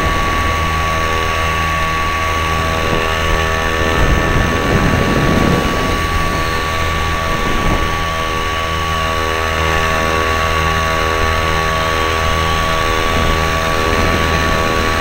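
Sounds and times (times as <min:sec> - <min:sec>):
small engine with propeller: 0:00.0 - 0:15.0
wind rushing over microphone: 0:00.0 - 0:15.0.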